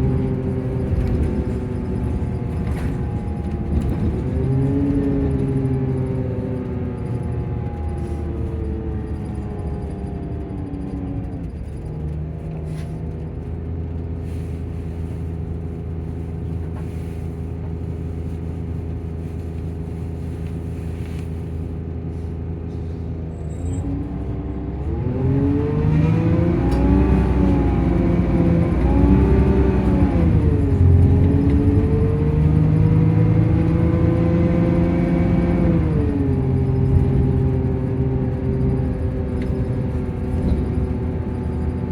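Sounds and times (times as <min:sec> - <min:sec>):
coach engine and cooling fan: 0:00.0 - 0:41.9.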